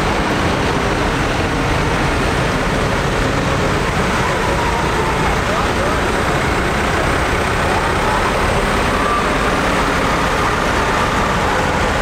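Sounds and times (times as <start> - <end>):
tractor engines driving past: 0.0 - 12.0.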